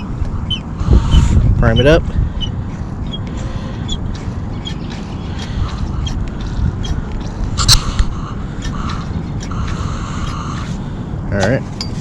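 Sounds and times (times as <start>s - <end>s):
low steady rumble: 0.0s - 12.0s
sharp rasp: 0.0s - 12.0s.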